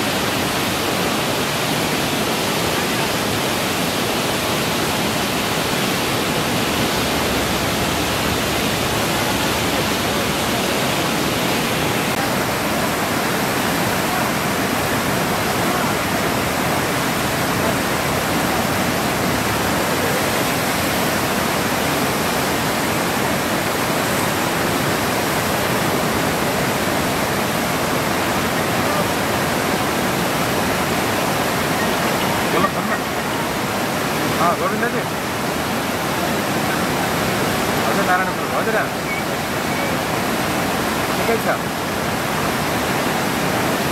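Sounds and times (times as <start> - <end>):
river rapids rushing: 0.0 - 43.9.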